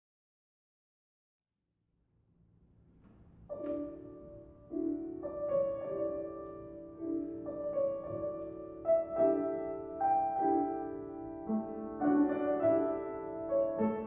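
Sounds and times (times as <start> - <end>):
grand piano chords: 2.6 - 14.0.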